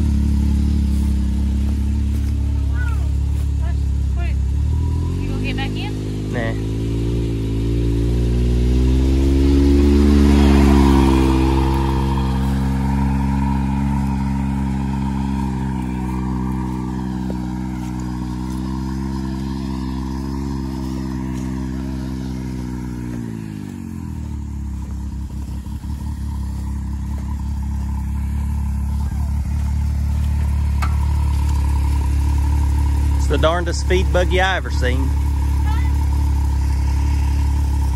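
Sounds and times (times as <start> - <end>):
engine rattling: 0.0 - 37.9
engine revving: 0.0 - 37.9.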